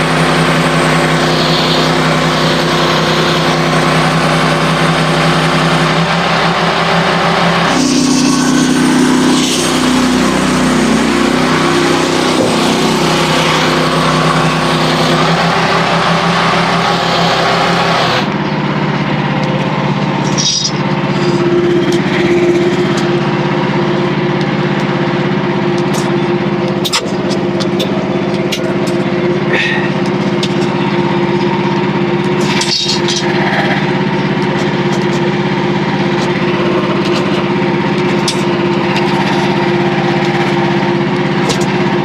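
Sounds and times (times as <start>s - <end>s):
engine running under load: 0.0s - 42.0s.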